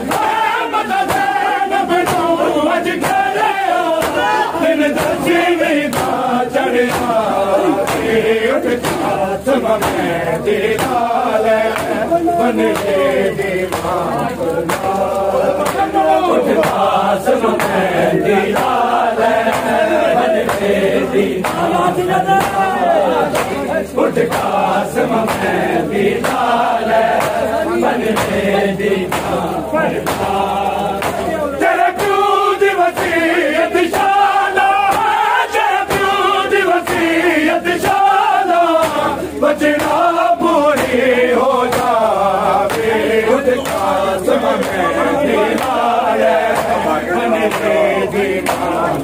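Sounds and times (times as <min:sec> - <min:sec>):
men chanting in unison: 0:00.0 - 0:49.0.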